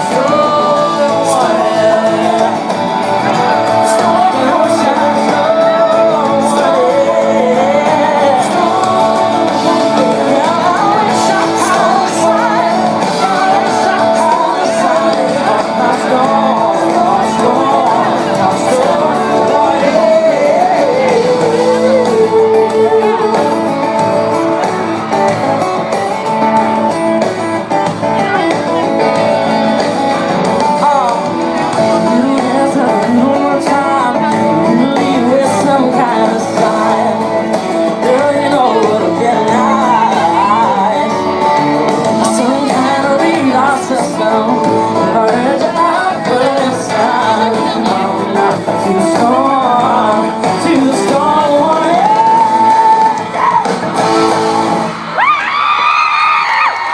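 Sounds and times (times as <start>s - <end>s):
man singing lead: 0.0s - 55.0s
live country-pop band: 0.0s - 56.9s.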